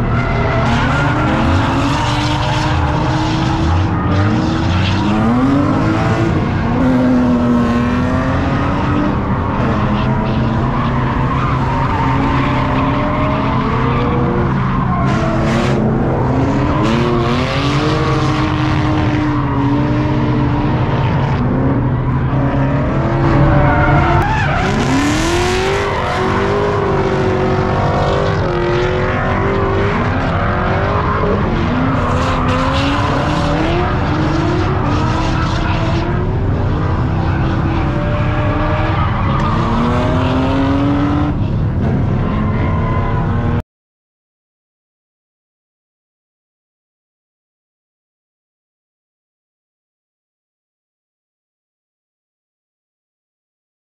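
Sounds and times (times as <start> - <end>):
car engines revving: 0.0 - 43.6.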